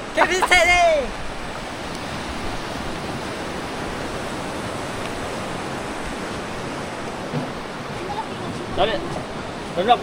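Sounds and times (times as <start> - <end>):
surf rushing: 0.0 - 10.0.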